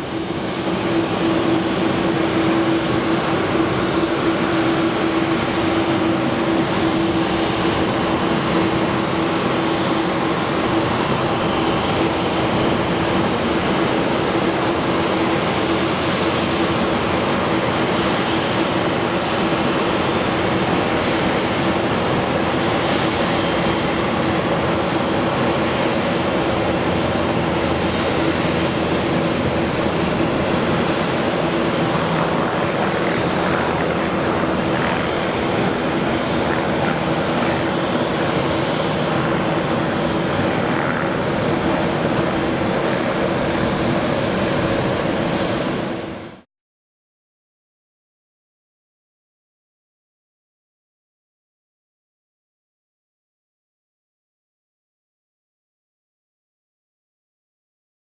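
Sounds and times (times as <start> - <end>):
propeller aircraft engine at full power: 0.0 - 46.5.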